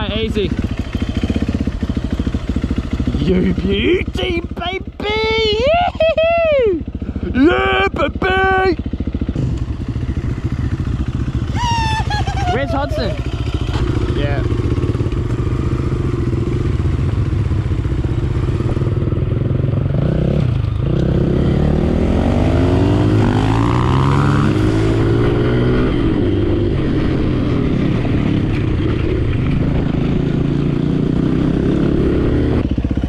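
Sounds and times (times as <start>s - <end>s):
dirt bike engine revving: 0.0s - 5.8s, 6.9s - 33.0s.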